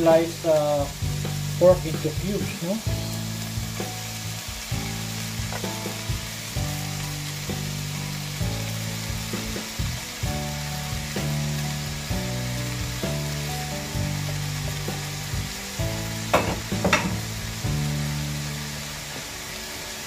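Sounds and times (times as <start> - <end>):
pork sizzling in a pan: 0.0 - 20.0
soft background music: 0.0 - 20.0.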